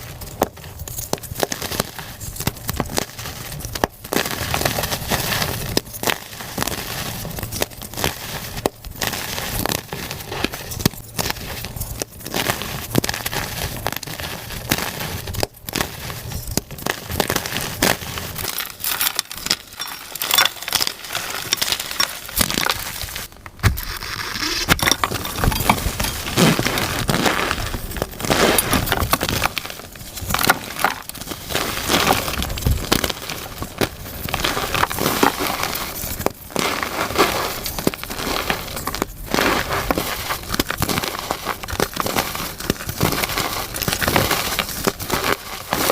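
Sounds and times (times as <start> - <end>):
chalk crunching and crackling: 0.0 - 45.9.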